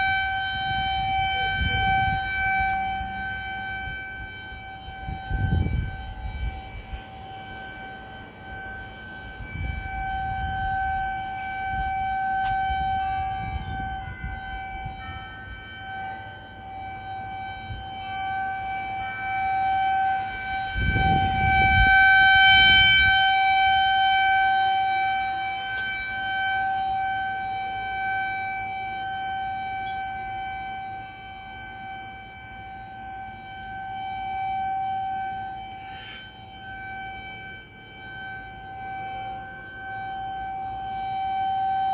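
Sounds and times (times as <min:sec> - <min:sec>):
tornado warning siren: 0:00.0 - 0:41.9.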